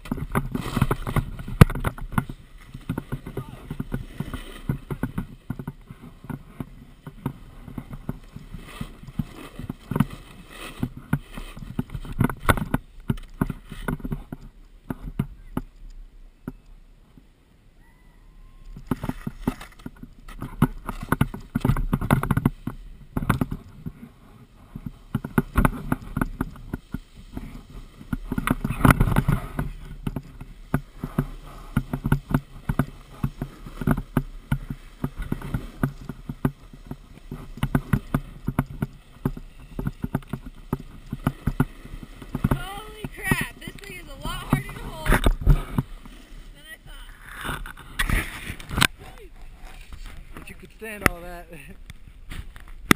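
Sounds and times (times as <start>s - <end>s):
skis scraping over packed snow: 0.0s - 15.6s, 18.4s - 52.9s.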